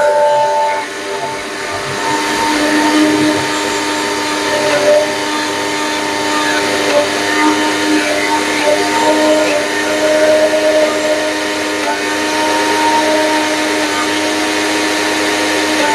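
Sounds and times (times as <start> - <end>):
mixer grinder motor hum with whine: 0.0 - 15.9.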